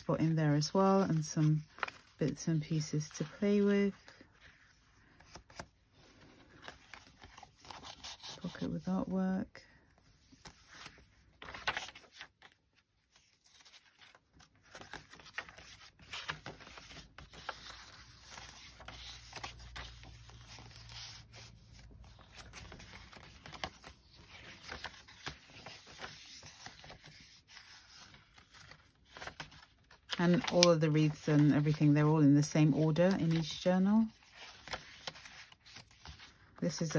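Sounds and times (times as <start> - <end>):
paper pages rustling: 0.0 - 9.2, 10.0 - 36.9.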